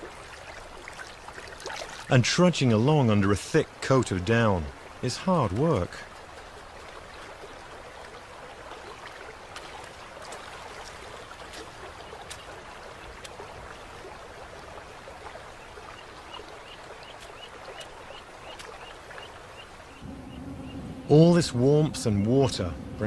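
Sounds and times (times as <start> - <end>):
river water running: 0.0 - 23.0.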